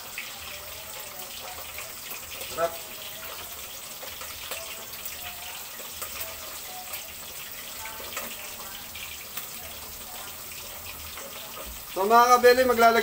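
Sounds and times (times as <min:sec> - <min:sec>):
sauce simmering with bubbling hiss: 0:00.0 - 0:13.0.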